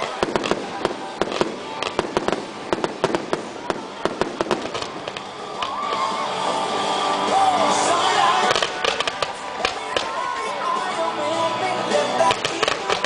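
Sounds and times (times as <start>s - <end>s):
fireworks popping and crackling: 0.0s - 10.8s, 12.0s - 13.0s
loud music: 0.0s - 13.0s.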